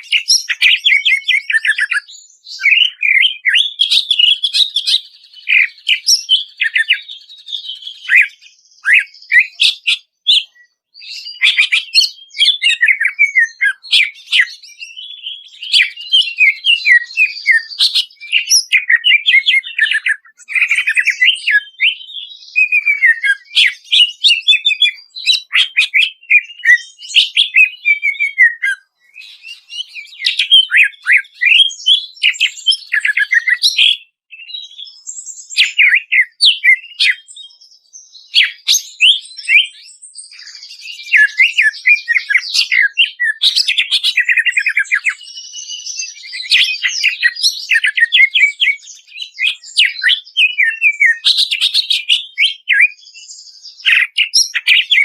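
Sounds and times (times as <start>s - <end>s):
bird chirping and whistling: 0.0s - 55.0s.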